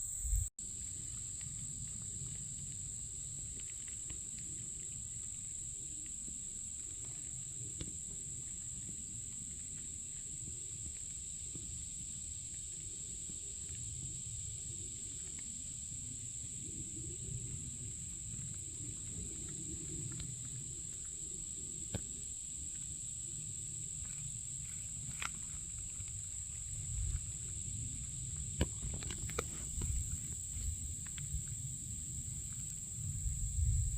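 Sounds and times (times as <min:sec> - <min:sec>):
insects chirping: 0:00.0 - 0:33.9
low rumble of wind: 0:00.0 - 0:33.9.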